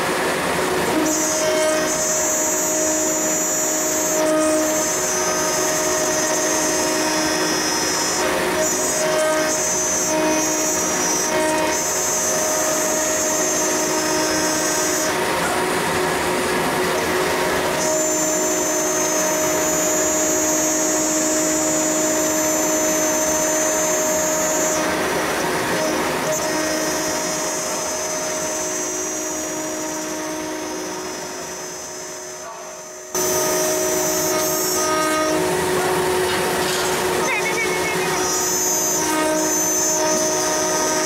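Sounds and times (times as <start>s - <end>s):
metal cutting noise: 0.0s - 41.0s
router high whine: 0.0s - 41.0s.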